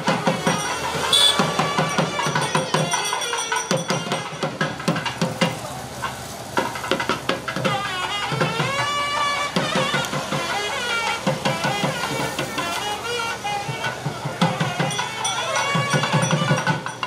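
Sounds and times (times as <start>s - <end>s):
fast hand-drumming: 0.0s - 17.0s
held melodic tones: 0.0s - 17.0s.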